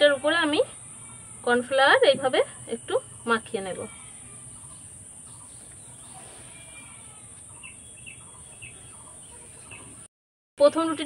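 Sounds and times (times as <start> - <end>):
steady background hiss: 0.0 - 10.1
birds chirping faintly: 0.0 - 11.0.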